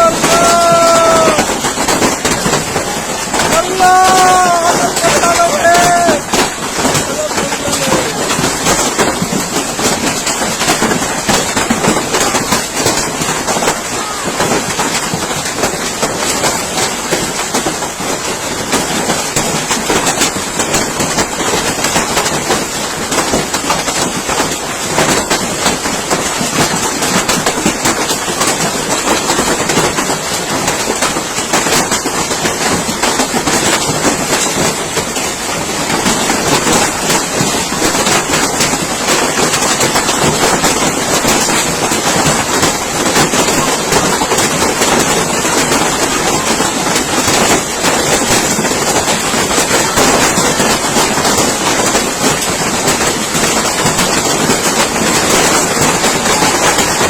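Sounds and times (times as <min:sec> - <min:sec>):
hail and rain clattering: 0:00.0 - 0:57.0.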